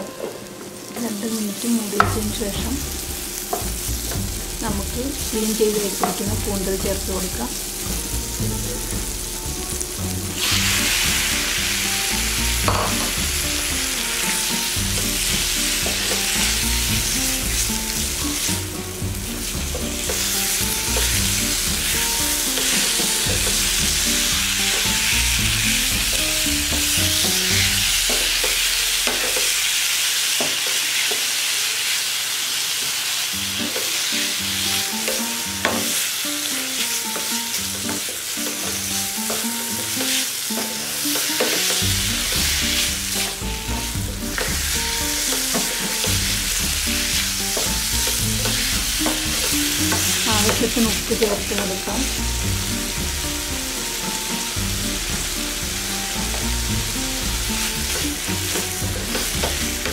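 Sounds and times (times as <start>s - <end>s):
squid sizzling in oil: 0.0s - 59.9s.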